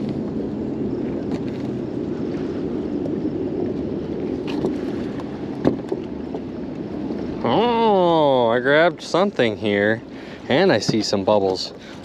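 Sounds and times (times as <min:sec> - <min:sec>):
water around boat: 0:00.0 - 0:12.0
wind: 0:00.0 - 0:12.0.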